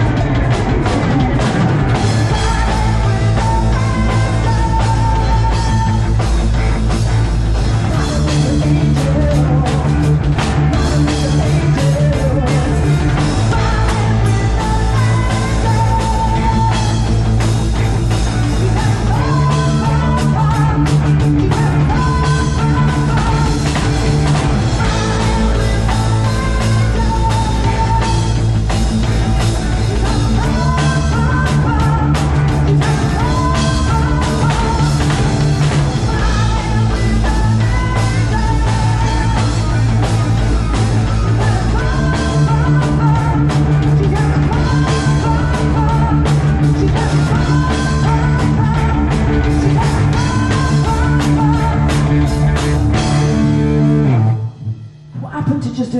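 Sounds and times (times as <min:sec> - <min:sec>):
heavy rock band playing live: 0:00.0 - 0:55.9.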